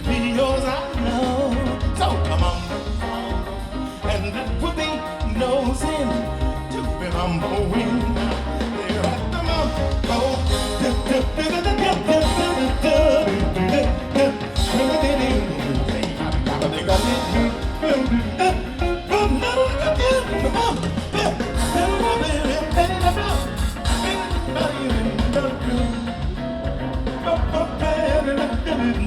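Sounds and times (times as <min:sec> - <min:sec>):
live band playing latin jazz: 0:00.0 - 0:29.0.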